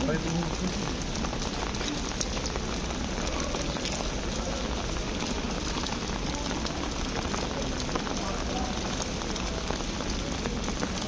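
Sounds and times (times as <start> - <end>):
rain on a street: 0.0 - 11.0.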